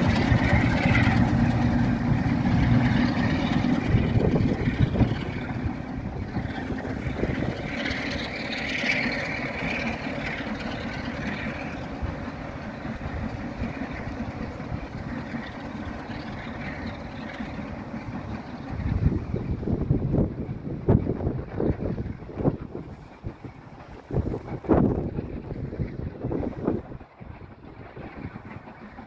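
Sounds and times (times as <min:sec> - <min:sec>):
train rumbling away: 0:00.0 - 0:29.0.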